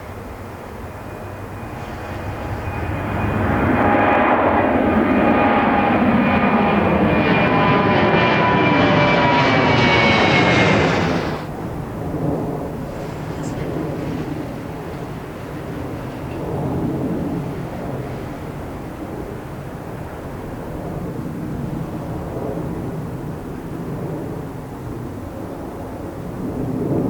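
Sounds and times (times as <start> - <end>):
jet airliner roaring overhead: 0.0 - 27.0.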